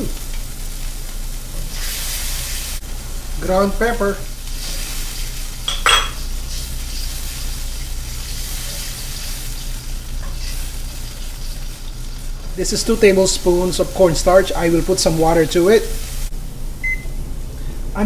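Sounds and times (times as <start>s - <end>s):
sauce sizzling in a wok: 0.0s - 16.4s.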